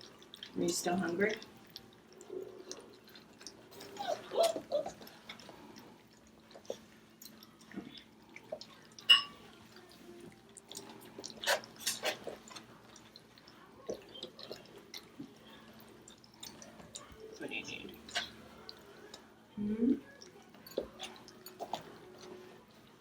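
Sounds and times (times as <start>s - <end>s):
puppies eating and lapping: 0.0s - 23.0s.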